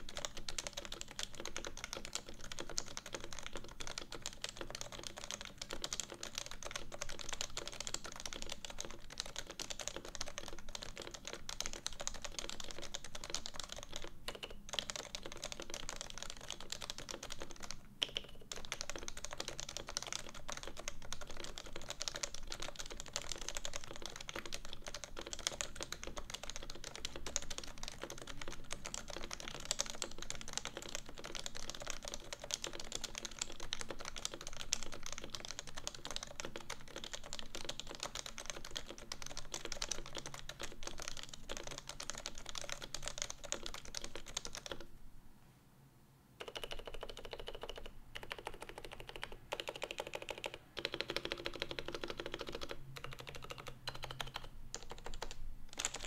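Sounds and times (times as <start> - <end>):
keyboard typing: 0.0 - 44.9, 46.4 - 56.0.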